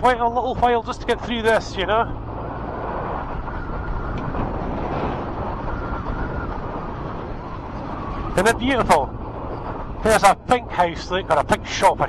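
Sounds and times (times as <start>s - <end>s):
motorcycle engine: 0.0s - 11.8s
wind rushing over microphone: 0.0s - 12.0s.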